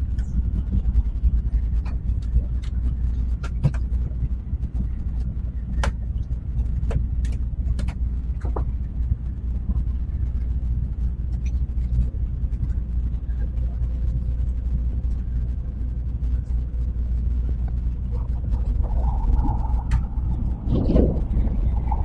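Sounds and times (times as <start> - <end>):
train rumble inside cabin: 0.0 - 22.0.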